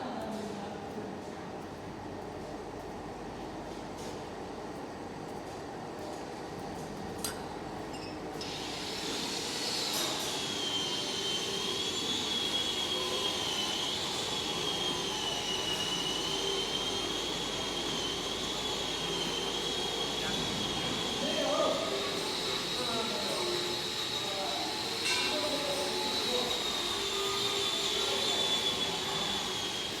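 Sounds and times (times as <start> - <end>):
factory machinery running: 0.1 - 30.0.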